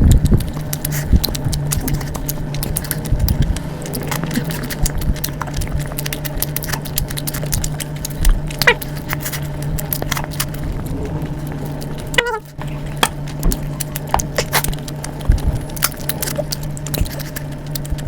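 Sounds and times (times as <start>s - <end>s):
chewing clicks and crunches: 0.0s - 18.0s
steady low hum: 0.0s - 18.0s.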